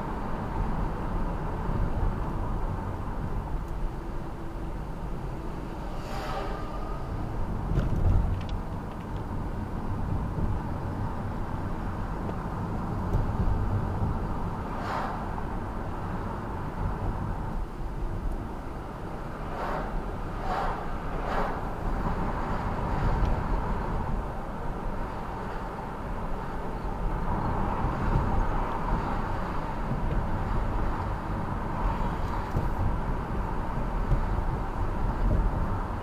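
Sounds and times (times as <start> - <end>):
low rumble of road vehicles: 0.0 - 36.0.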